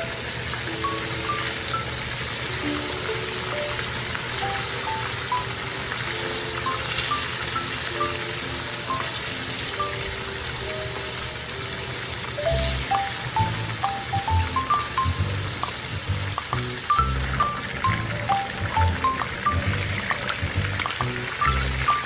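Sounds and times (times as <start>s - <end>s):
chicken frying in hot oil: 0.0s - 22.0s
light background music: 0.0s - 22.0s.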